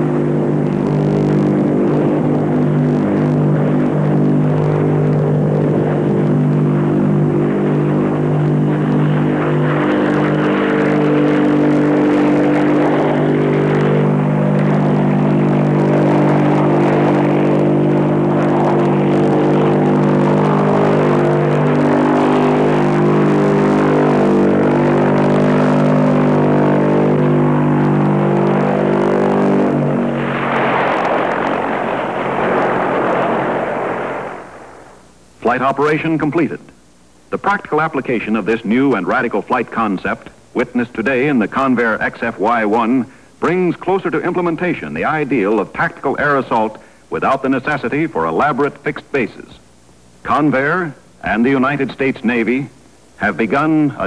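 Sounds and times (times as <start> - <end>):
turboprop aircraft engine drone: 0.0 - 54.0.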